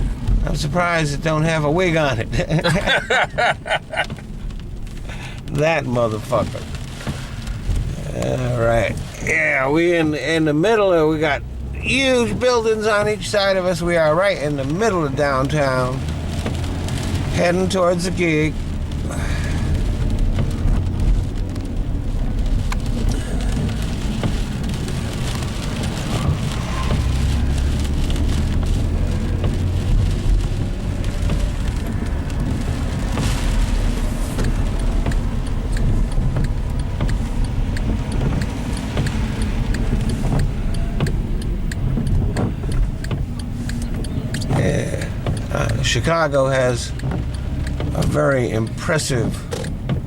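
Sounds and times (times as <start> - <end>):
engine and tyres on wet road: 0.0 - 50.0
rain ticking on windshield: 0.0 - 50.0.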